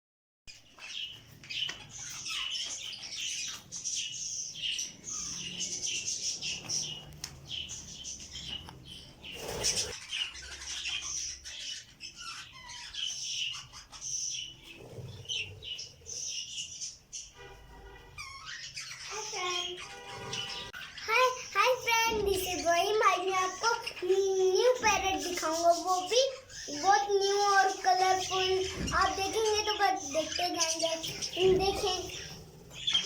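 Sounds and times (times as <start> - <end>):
parrots chirping and chattering: 0.5 - 33.0.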